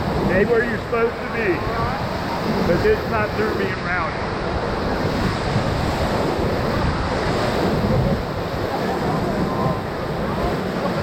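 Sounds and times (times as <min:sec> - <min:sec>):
whitewater roaring: 0:00.0 - 0:11.0.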